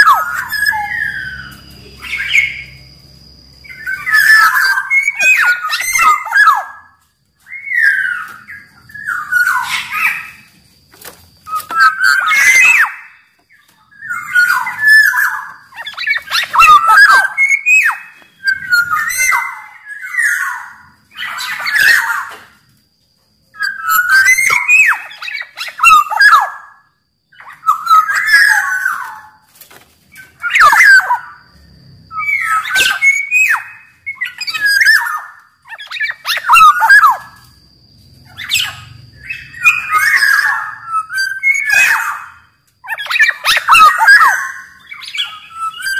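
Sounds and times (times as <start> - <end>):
bird singing whistled phrases: 0.0 - 2.9, 3.6 - 10.5, 11.5 - 22.5, 23.6 - 29.4, 30.2 - 31.4, 32.1 - 37.4, 38.4 - 45.9.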